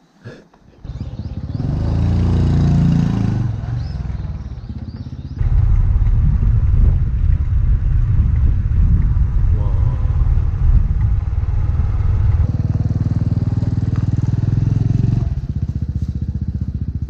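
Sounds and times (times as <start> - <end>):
small motorcycle engine running: 0.8 - 17.0.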